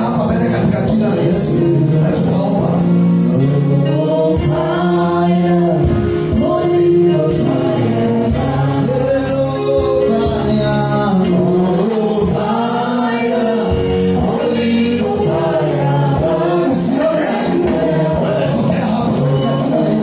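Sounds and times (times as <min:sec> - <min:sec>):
group singing gospel song: 0:00.0 - 0:20.0
instrumental backing: 0:00.0 - 0:20.0.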